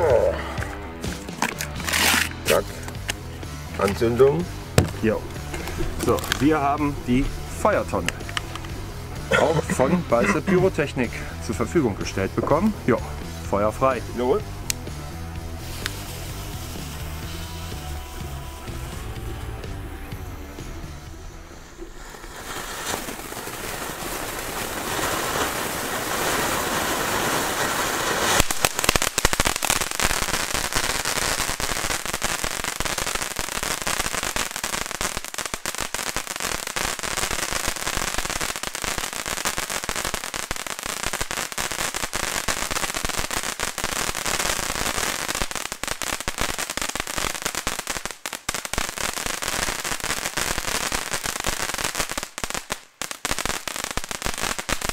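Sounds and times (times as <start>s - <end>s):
firework crackling: 0.0s - 54.9s
firework fountain hissing: 0.0s - 54.9s.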